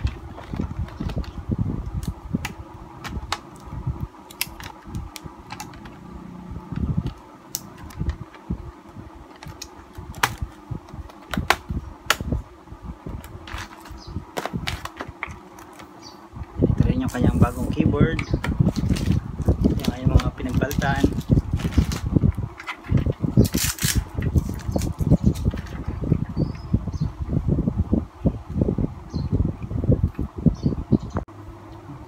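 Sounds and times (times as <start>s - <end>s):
fan hum: 0.0s - 32.0s.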